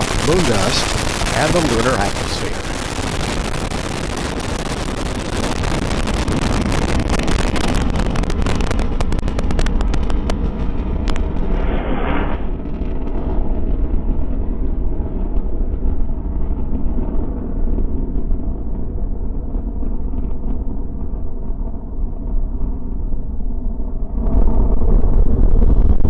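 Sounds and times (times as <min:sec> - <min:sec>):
rocket motor crackling and rumbling: 0:00.0 - 0:26.0.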